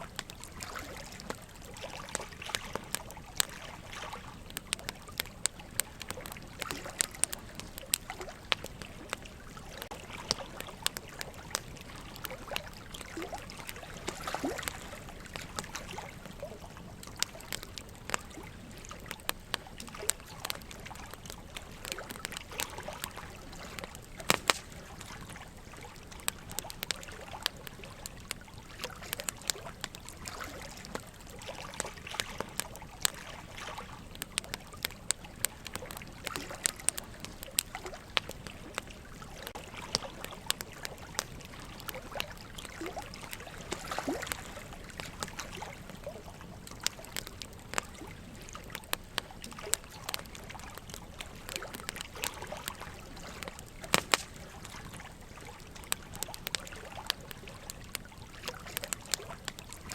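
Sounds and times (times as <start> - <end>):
trickle of running water: 0.0 - 59.9
wood fire crackling and popping: 0.0 - 59.9.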